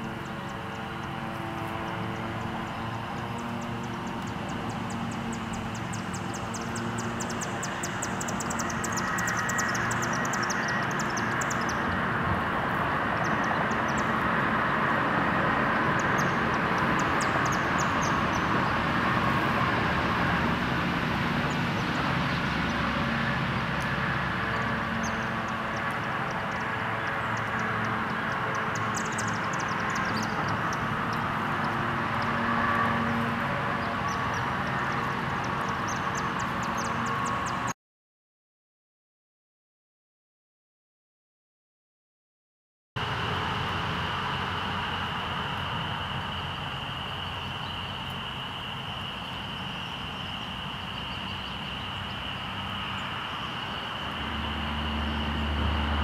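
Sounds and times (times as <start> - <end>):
distant engine drone: 0.0 - 37.7, 43.0 - 56.0.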